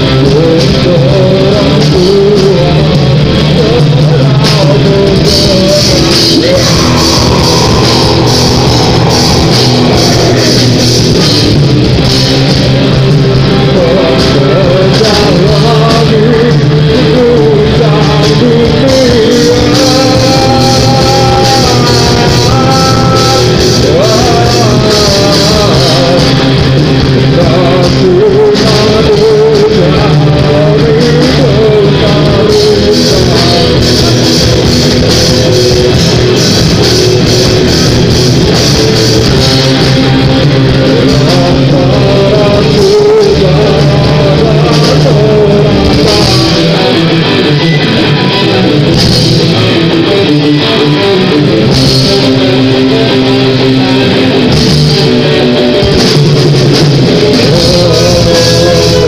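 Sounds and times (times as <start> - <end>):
bass guitar: 0.0 - 59.0
drum kit: 0.0 - 59.0
electric guitars: 0.0 - 59.0
person singing: 0.0 - 59.0.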